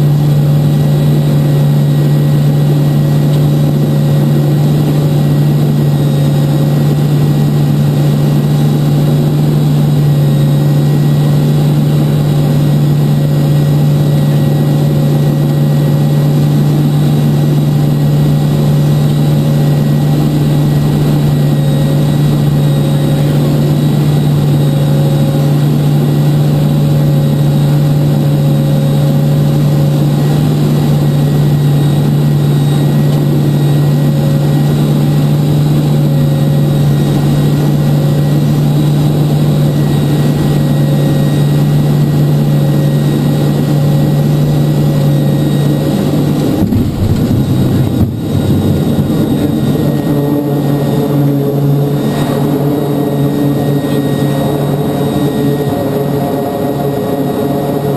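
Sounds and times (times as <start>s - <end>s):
turboprop engines droning: 0.0s - 57.9s.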